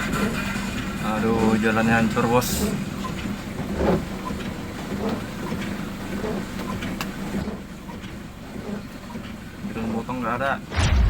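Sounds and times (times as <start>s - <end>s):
vehicle on rough road: 0.0s - 11.0s.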